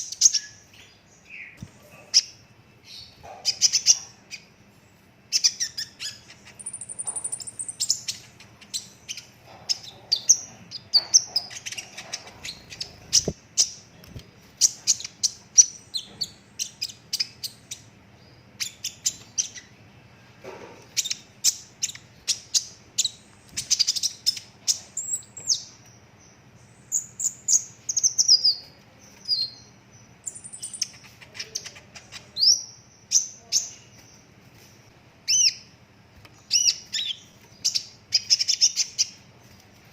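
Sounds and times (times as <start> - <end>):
sunbird chirping and trilling: 0.0 - 13.9, 14.5 - 34.4, 35.2 - 35.8, 36.4 - 39.5
faint steady hum: 0.0 - 39.9.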